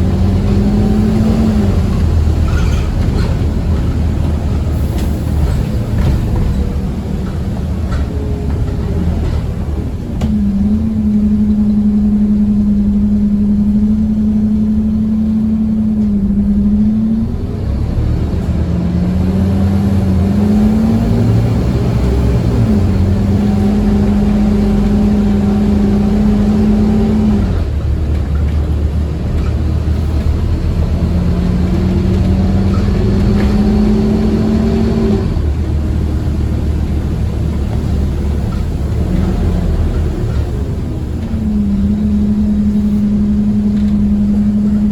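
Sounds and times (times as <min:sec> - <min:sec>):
bus engine under load: 0:00.0 - 0:44.9
low rumble of road noise: 0:00.0 - 0:44.9.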